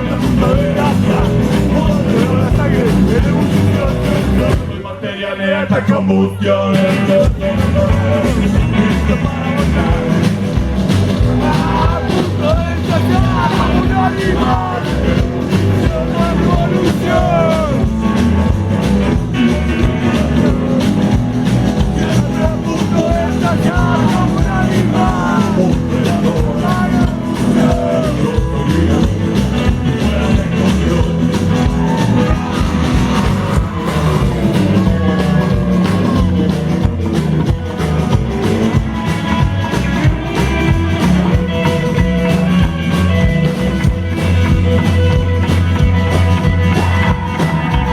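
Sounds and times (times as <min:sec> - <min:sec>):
loud rock music: 0:00.0 - 0:47.9.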